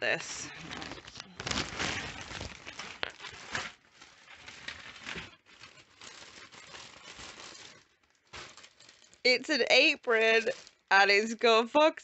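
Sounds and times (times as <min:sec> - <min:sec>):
plastic packaging crinkling: 0:00.4 - 0:11.2.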